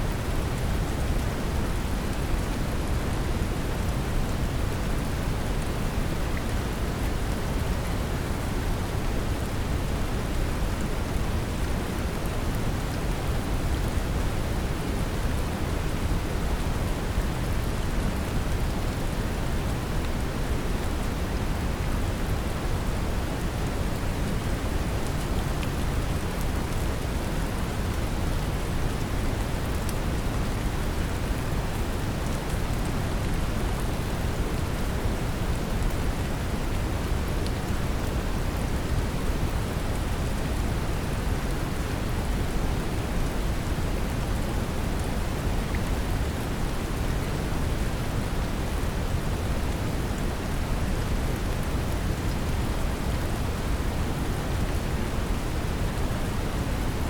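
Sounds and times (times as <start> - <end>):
brown noise hiss: 0.0 - 57.0
gentle rain: 0.0 - 57.0.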